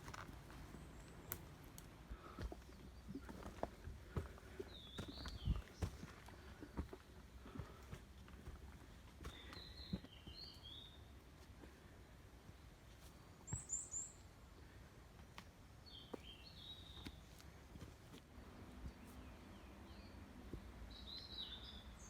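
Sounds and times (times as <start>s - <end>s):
songbird singing: 0.0s - 14.9s, 15.5s - 22.0s.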